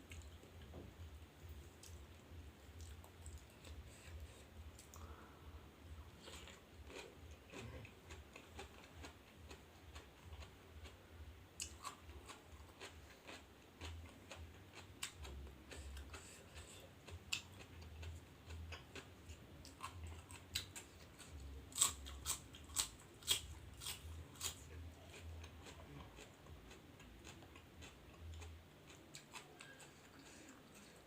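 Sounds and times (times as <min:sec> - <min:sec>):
person chewing crunchy food: 0:01.6 - 0:11.0, 0:11.6 - 0:31.0.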